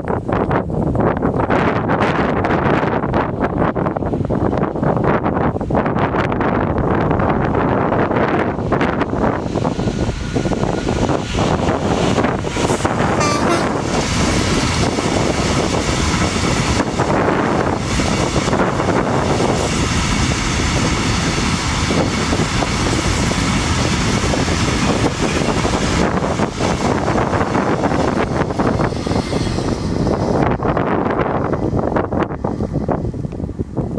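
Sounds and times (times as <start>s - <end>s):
train rumbling on rails: 0.0s - 33.9s
wind buffeting microphone: 0.0s - 33.9s.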